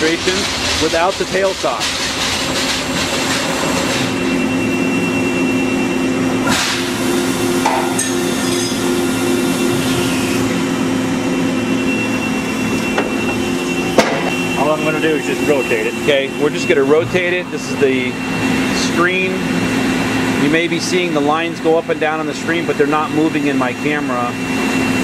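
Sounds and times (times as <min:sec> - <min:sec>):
laser cutting machine hum: 0:00.0 - 0:25.0
thin high whine: 0:04.0 - 0:25.0.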